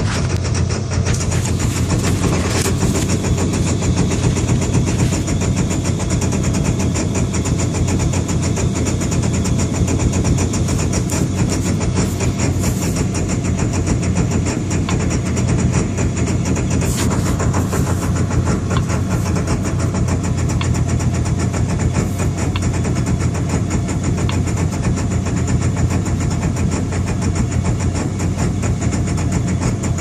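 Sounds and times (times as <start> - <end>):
engine idling roughly: 0.0 - 30.0.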